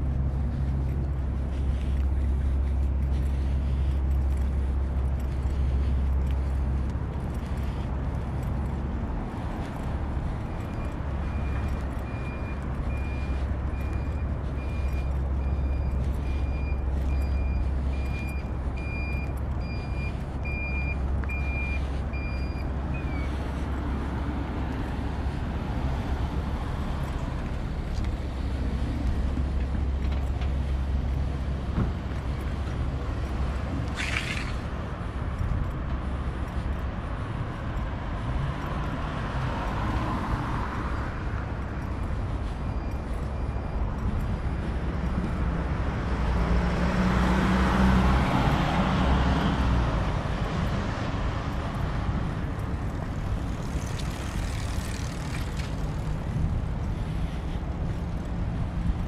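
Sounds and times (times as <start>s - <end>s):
street traffic rumbling: 0.0s - 59.0s.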